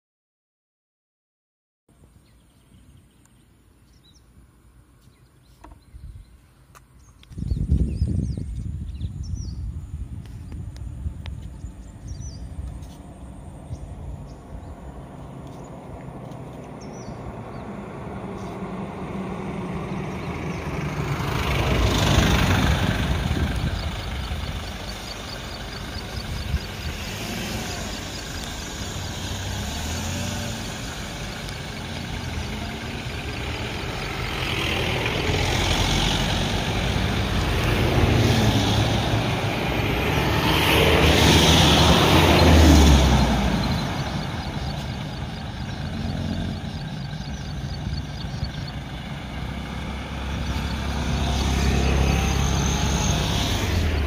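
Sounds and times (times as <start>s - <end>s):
jeep engine running: 7.3s - 54.0s.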